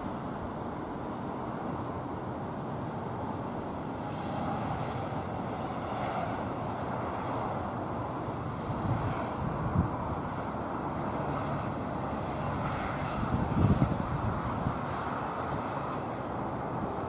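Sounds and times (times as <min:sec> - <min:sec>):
faint jet engine whine: 0:00.0 - 0:17.0
jet engine roar at takeoff: 0:00.0 - 0:17.0.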